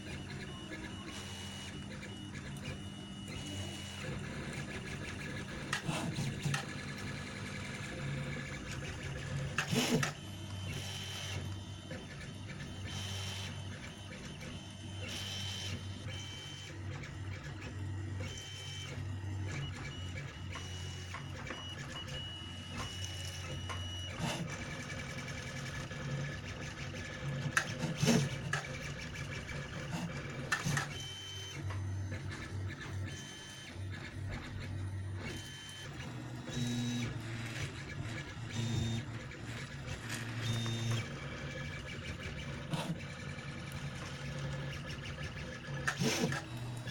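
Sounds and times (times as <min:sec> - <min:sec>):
stepper motors whining: 0:00.0 - 0:46.9.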